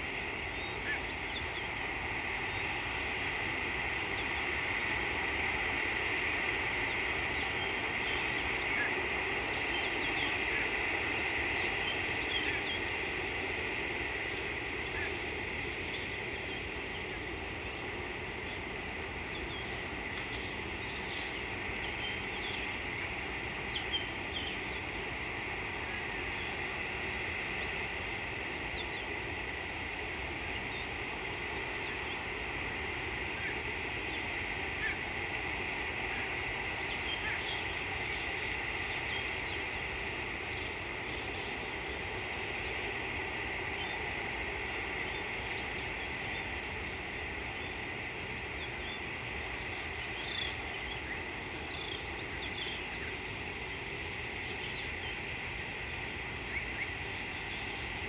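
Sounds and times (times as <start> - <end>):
insect chorus shrill drone: 0.0 - 58.0
low background hiss: 0.0 - 58.0.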